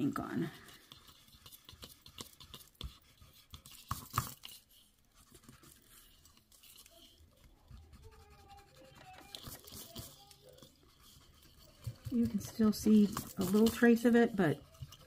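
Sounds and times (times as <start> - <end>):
eraser scratching on cardstock: 0.6 - 15.0.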